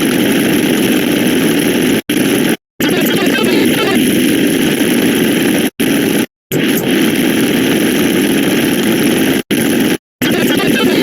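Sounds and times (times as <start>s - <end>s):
buzzing digital sound effects: 0.0s - 11.0s.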